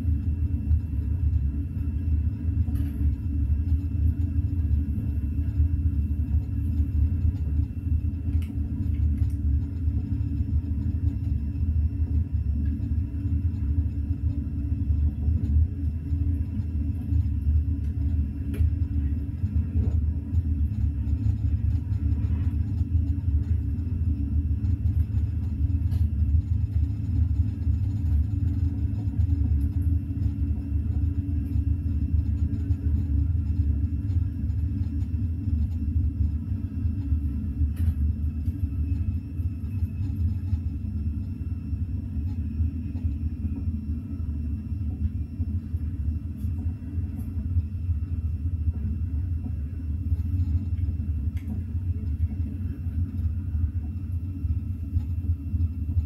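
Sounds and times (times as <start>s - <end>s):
train rumbling at speed: 0.0s - 56.0s.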